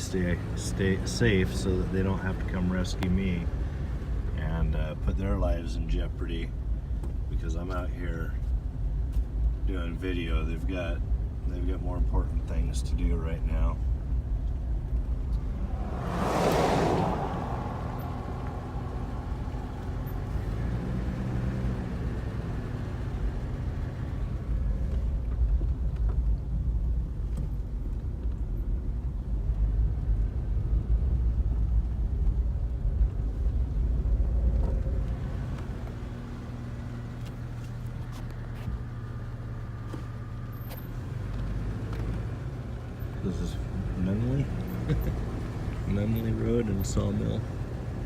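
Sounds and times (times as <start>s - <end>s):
car engine and tyre rumble: 0.0s - 48.0s.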